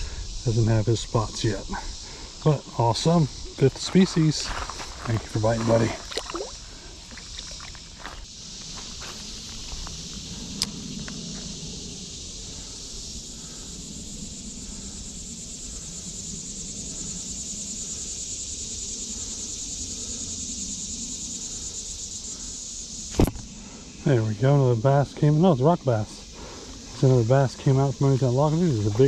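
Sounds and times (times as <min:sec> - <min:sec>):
insects chorus pulsing: 0:00.0 - 0:29.0.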